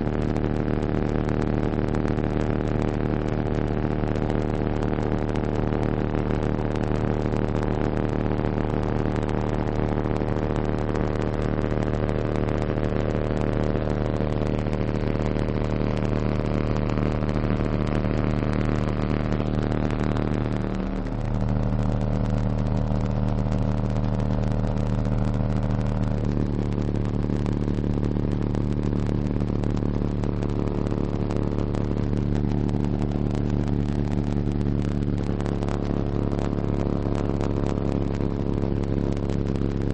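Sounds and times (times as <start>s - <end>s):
subwoofers playing low test tone: 0.0s - 39.9s.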